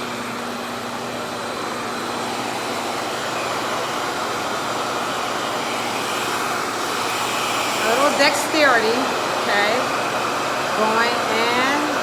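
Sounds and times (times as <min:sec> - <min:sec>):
hair dryer suction rushing air: 0:00.0 - 0:12.0.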